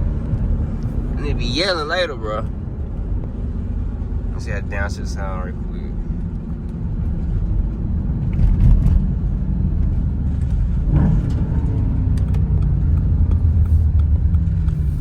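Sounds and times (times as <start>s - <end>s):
car exhaust rumble and revving: 0.0s - 15.0s.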